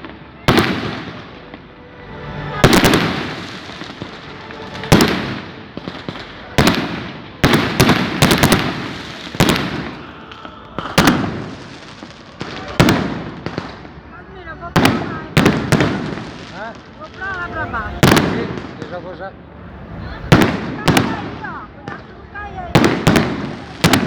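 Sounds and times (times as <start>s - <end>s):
firecrackers banging: 0.0s - 24.0s.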